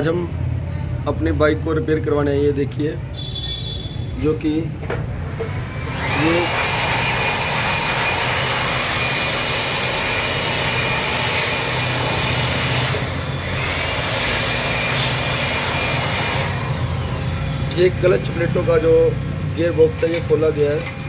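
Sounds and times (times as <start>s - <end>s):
workshop machine whining: 0.0s - 21.0s.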